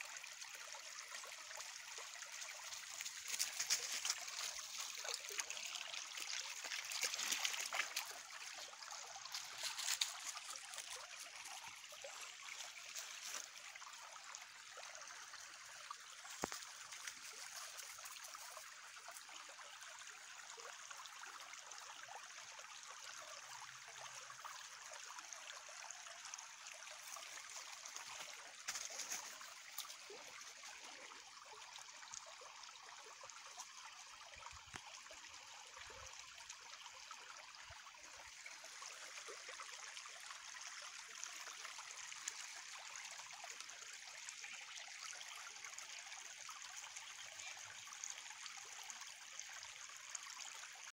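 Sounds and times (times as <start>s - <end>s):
creek trickling: 0.0s - 50.9s.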